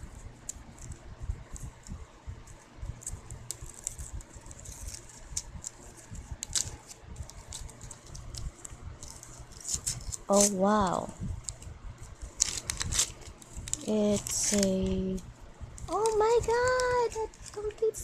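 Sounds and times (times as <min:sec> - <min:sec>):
packaging clicks and rustles: 0:02.9 - 0:18.0.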